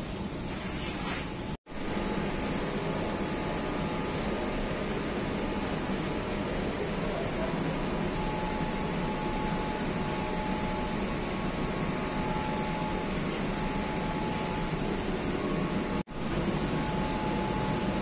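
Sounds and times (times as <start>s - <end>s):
metro train interior rush: 1.9s - 18.0s.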